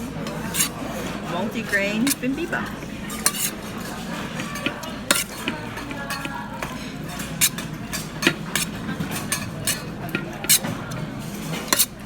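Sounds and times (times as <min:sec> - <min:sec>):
spoon scraping a bowl: 0:00.0 - 0:12.0.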